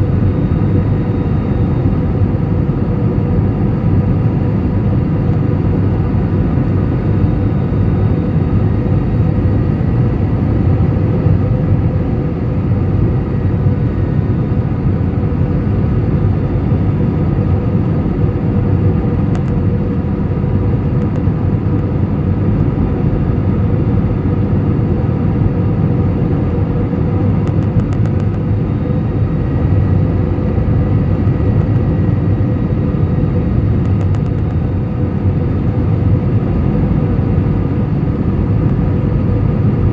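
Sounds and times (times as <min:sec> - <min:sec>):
jet cabin engine rumble: 0:00.0 - 0:39.9.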